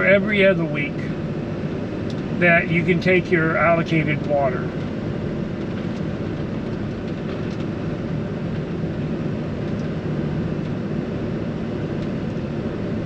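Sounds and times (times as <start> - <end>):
car engine: 0.0 - 13.0.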